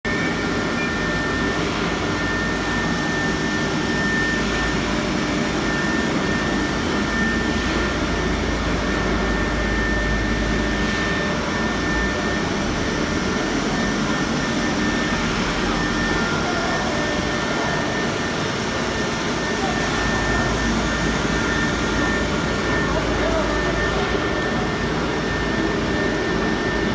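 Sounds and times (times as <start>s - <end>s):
cnc router machine noise: 0.1s - 26.9s
steady high whine: 0.1s - 26.9s.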